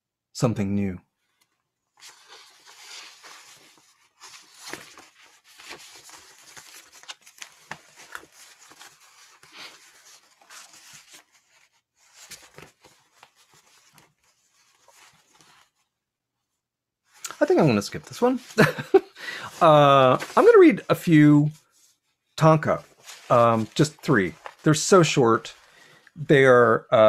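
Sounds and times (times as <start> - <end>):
paper pages rustling: 2.0 - 15.9, 17.1 - 26.2.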